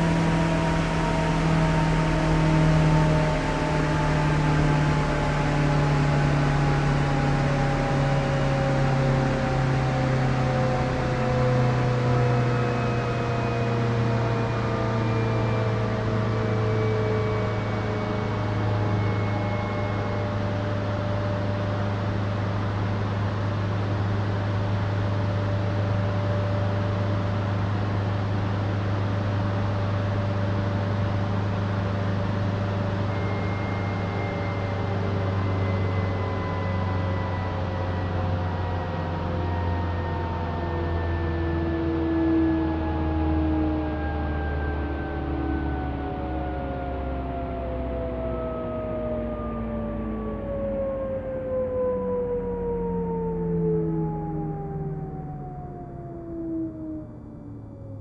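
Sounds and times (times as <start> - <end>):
electric train motor whine: 0.0 - 58.0.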